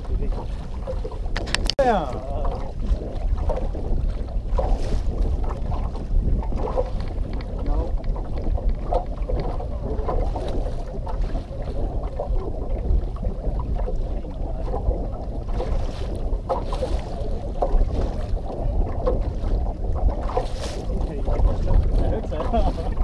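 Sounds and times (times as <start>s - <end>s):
waves lapping against hull: 0.0s - 23.0s
wind buffeting microphone: 0.0s - 23.0s.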